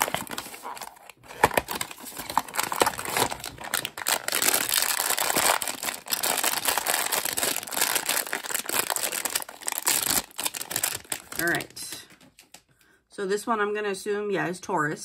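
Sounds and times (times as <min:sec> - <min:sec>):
foil wrapper crinkling: 0:00.0 - 0:12.5.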